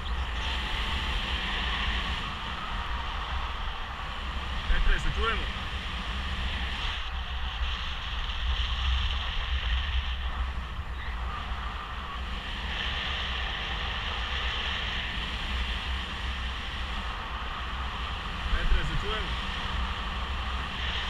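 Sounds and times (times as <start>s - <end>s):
low flickering rumble: 0.0s - 21.0s
wind rushing on microphone: 0.0s - 21.0s.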